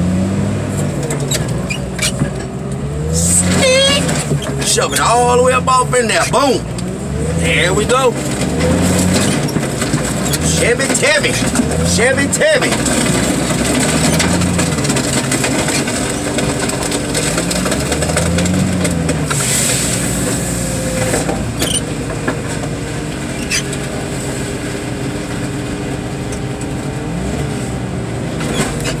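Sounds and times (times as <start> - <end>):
heavy machinery engine running: 0.0 - 29.0.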